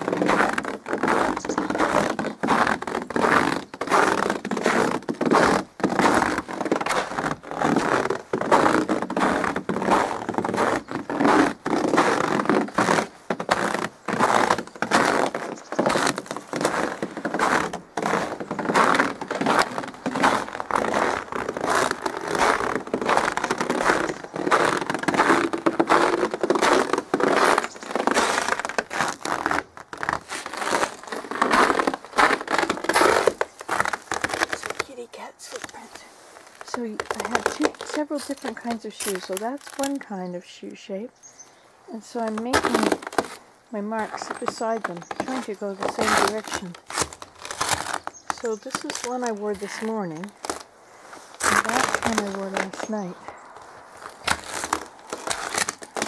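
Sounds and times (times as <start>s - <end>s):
footsteps crunching in snow: 0.0s - 40.3s, 41.6s - 56.0s.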